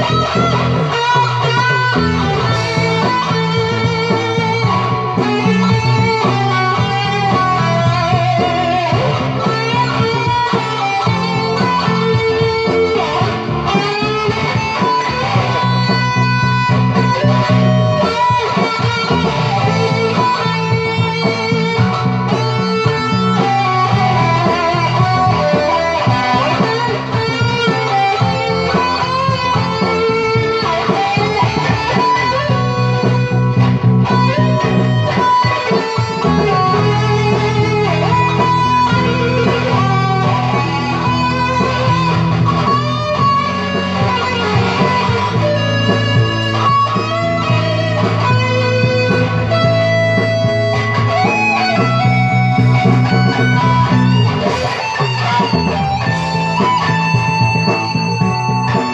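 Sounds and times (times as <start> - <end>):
electric guitar lead line: 0.0 - 58.9.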